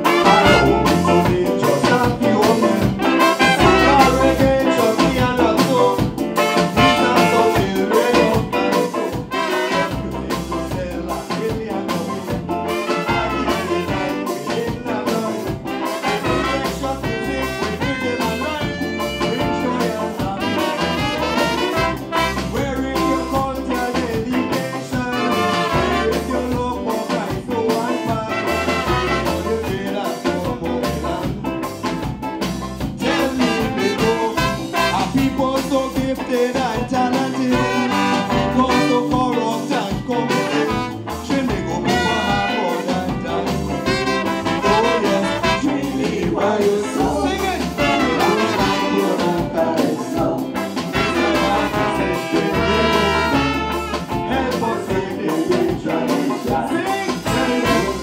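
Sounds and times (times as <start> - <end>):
live calypso band: 0.0 - 58.0.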